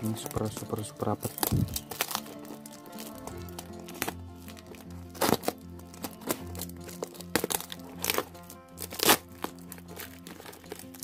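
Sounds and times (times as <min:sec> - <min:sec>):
plastic wrap crackling: 0:00.0 - 0:11.0.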